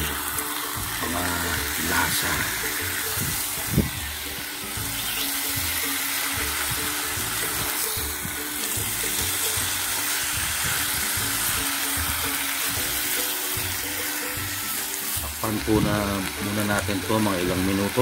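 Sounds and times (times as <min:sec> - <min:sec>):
background music: 0:00.0 - 0:18.0
chicken sizzling in a pan: 0:00.0 - 0:18.0.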